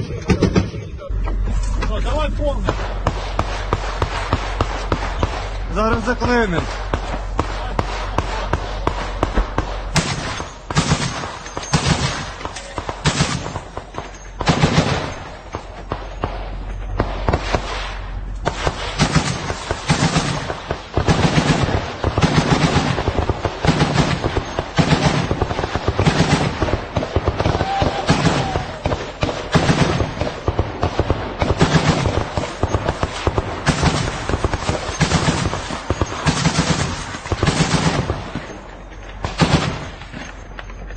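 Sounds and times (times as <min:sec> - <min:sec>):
machine gun firing bursts: 0:02.6 - 0:38.6, 0:39.2 - 0:40.4.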